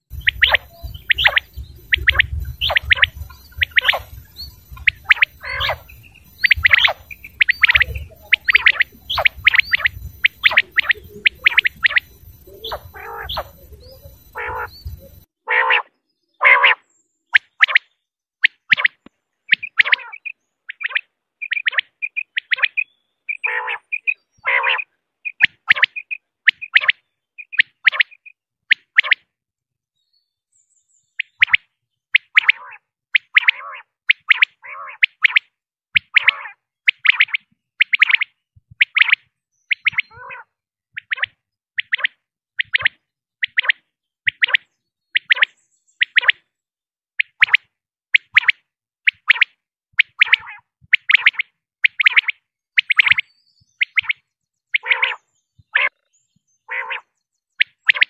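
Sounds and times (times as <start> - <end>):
quail calling: 0.0 - 29.3, 31.2 - 46.4, 47.2 - 56.1, 56.7 - 58.0.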